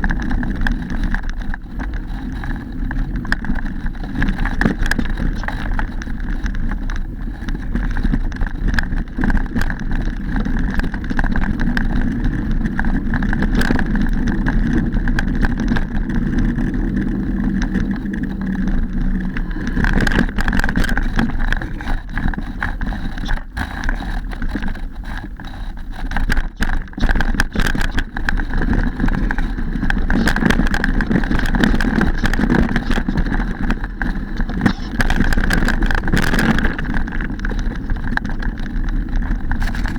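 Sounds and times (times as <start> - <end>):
bike rattling over bumps: 0.0 - 39.9
bike tyres rumbling on dirt: 0.0 - 39.9.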